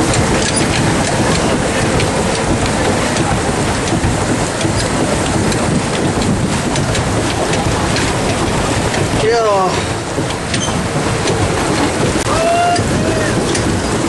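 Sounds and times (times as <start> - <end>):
water splashing and spattering: 0.0 - 14.0.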